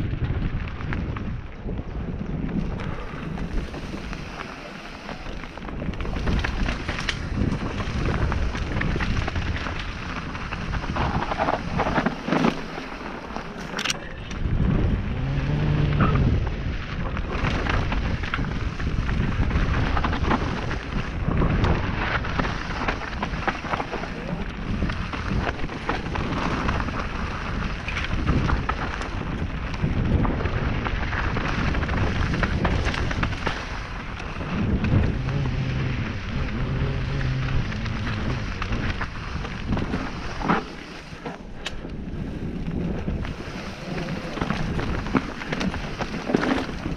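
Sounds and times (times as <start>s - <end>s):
continuous low rumble: 0.0s - 46.9s
wind buffeting microphone: 0.0s - 46.9s.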